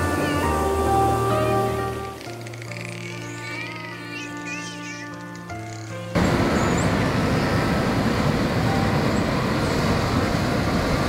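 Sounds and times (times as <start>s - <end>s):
sea waves washing: 0.0s - 3.6s, 5.6s - 11.0s.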